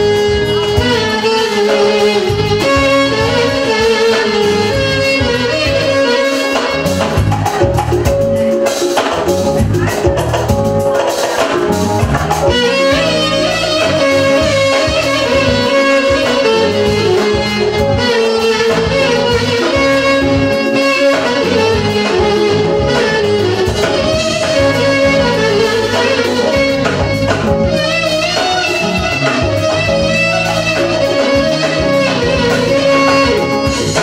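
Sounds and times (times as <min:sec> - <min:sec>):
clarinet sliding melody: 0:00.0 - 0:34.0
drum kit: 0:00.0 - 0:34.0
keyboard accompaniment: 0:00.0 - 0:34.0.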